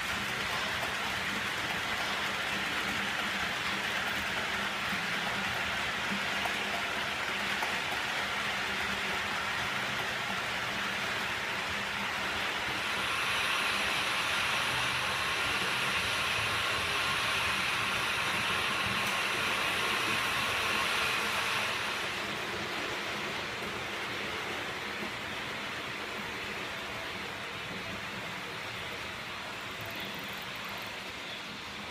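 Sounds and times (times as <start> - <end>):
model train whirring on track: 0.0 - 31.9.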